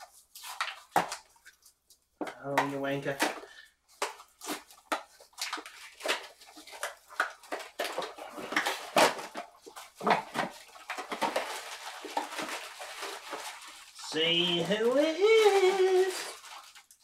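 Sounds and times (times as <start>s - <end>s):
cardboard boxes and foil bags tearing: 0.0s - 1.4s, 3.1s - 17.0s.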